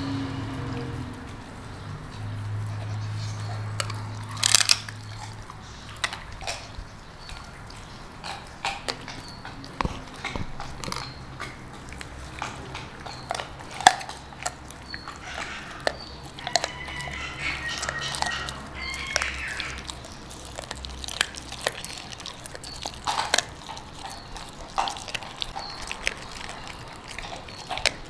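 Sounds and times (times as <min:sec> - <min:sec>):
dog chewing bones: 0:00.4 - 0:28.0
bones crunching: 0:02.7 - 0:28.0.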